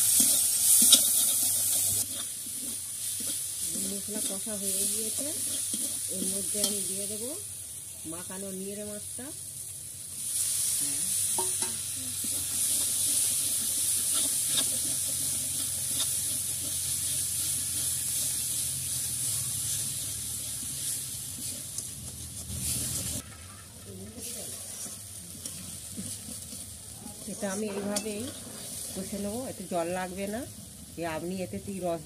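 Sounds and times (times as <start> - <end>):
fish sizzling in hot oil: 0.0 - 32.0.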